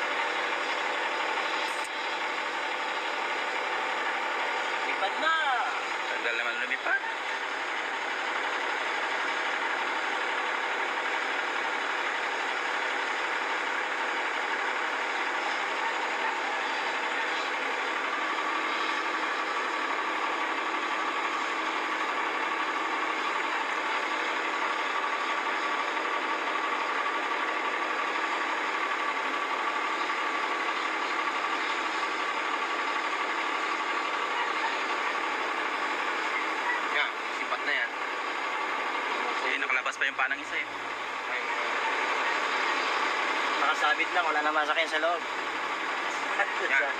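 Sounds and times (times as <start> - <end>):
engine with constant whine: 0.0 - 46.9.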